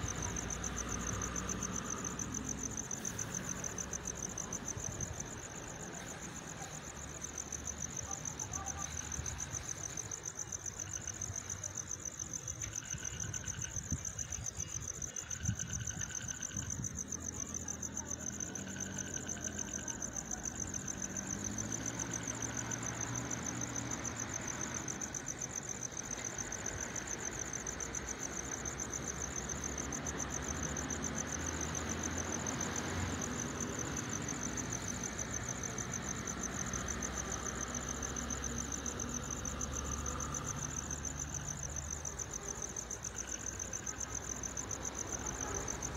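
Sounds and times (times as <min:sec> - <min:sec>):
crickets chirping: 0:00.0 - 0:45.9.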